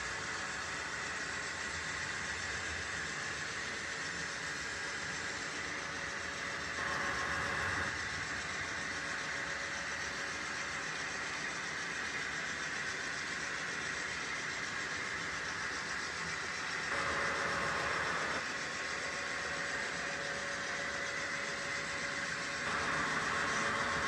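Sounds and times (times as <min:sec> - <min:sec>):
model train rolling on track: 0:00.0 - 0:24.0.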